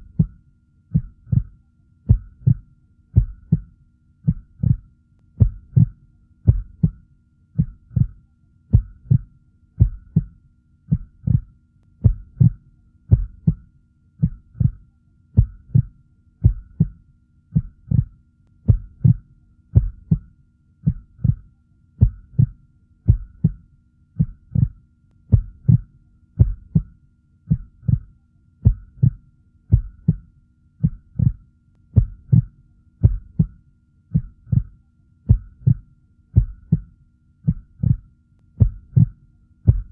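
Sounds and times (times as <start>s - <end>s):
heartbeat double thumps: 0.0s - 2.6s, 3.2s - 7.0s, 7.6s - 14.8s, 15.4s - 18.1s, 18.7s - 31.4s, 32.0s - 39.9s
faint steady hum: 0.0s - 39.9s.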